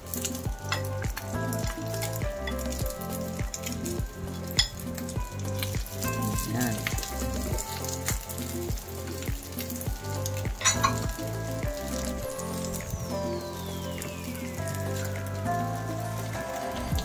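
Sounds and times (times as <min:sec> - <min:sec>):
background music with beat: 0:00.0 - 0:17.0
rice sizzling in oil: 0:00.0 - 0:17.0.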